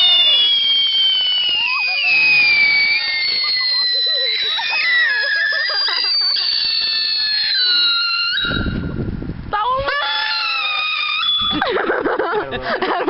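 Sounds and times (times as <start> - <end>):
voices calling out: 0.0 - 8.5, 9.6 - 13.0
firework whistling: 0.0 - 12.0.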